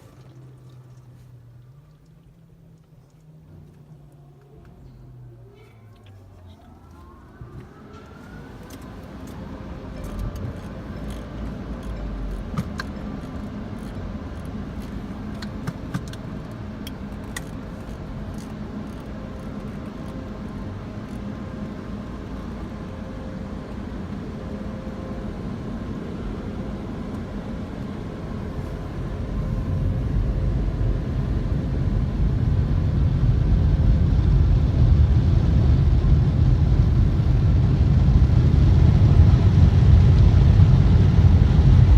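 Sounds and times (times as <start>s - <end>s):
car wash running: 0.0s - 4.6s, 5.7s - 41.9s.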